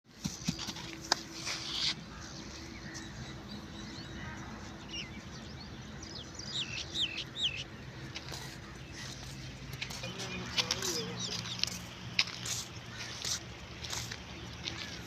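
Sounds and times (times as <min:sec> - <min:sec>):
bird chirping: 0:01.7 - 0:15.0.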